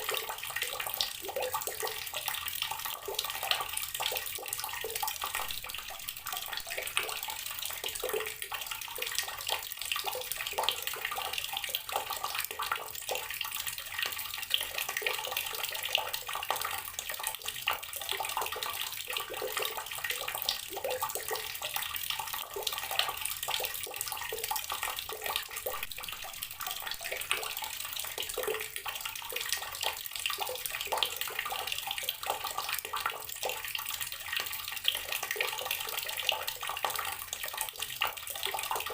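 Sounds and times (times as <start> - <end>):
tap water running and splashing: 0.0 - 38.9.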